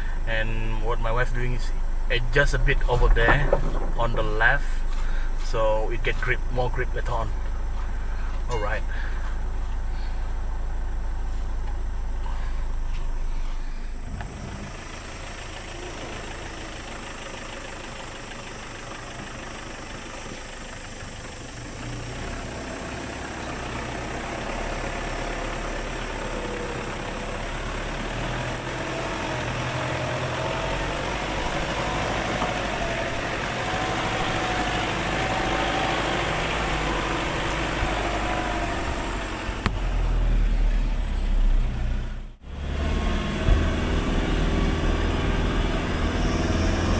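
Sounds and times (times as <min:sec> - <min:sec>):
car engine running: 0:00.0 - 0:46.9.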